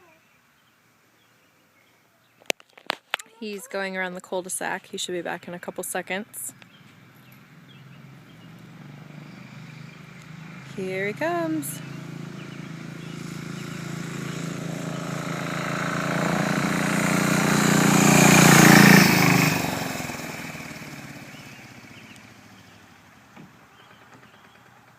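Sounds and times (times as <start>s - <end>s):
diesel motorcycle passing: 3.5s - 24.9s.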